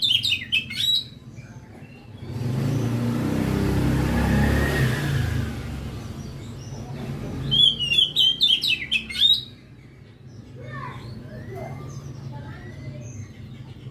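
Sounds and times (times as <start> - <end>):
bird chirping rapidly: 0.0 - 3.0, 4.0 - 13.9
vehicle passing: 0.0 - 13.9.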